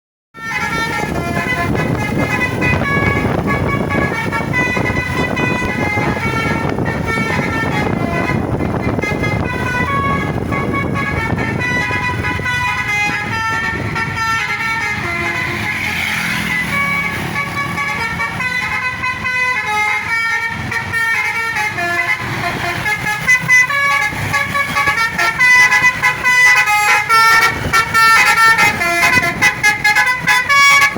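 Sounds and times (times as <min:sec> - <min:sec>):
engine and road noise: 0:00.3 - 0:30.9
musical bus air horn: 0:00.4 - 0:30.9.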